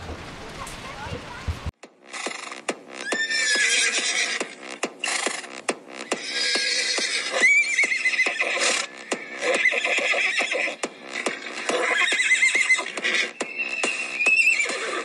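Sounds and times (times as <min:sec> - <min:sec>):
galloping hoofbeats: 0:00.0 - 0:15.0
horse whinnying: 0:02.1 - 0:15.0.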